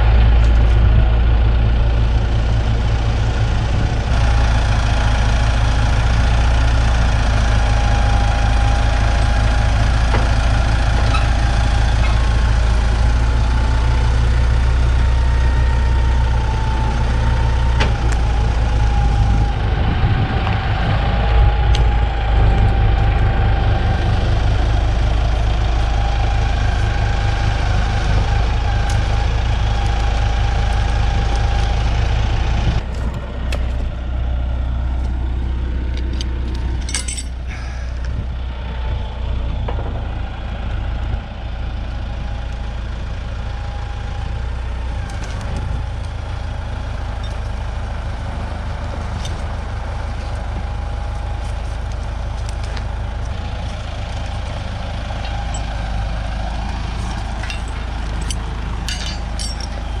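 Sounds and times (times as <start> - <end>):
heavy engine idling: 0.0 - 60.0.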